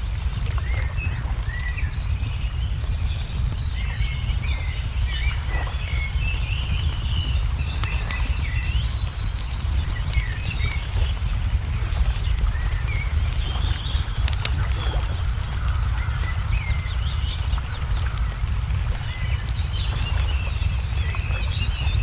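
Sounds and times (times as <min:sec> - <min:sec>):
songbirds chirping: 0:00.0 - 0:22.0
steady low rumble: 0:00.0 - 0:22.0
wood fire crackling and popping: 0:00.0 - 0:22.0.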